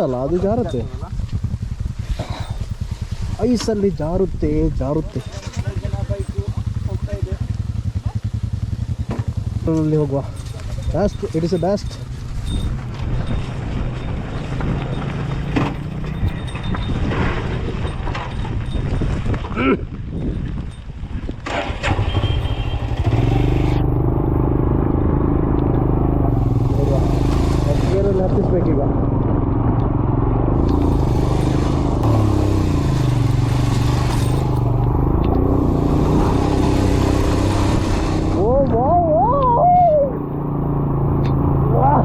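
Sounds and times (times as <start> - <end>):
bike rattling and scraping: 0.0 - 39.4
motorcycle engine rumbling: 0.0 - 42.0.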